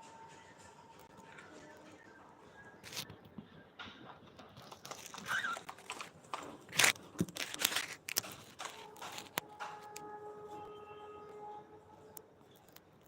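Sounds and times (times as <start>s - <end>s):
rustling and crinkling: 0.0s - 10.7s.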